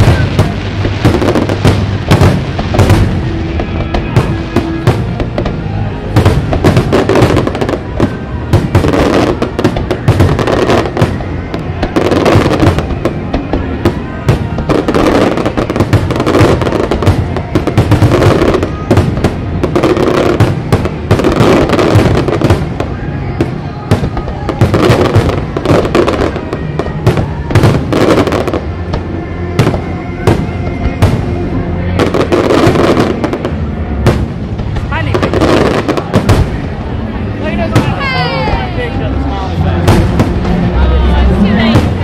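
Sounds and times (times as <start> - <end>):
fireworks bursting with booms: 0.0 - 38.8, 39.5 - 42.0
fireworks crackle: 0.0 - 42.0.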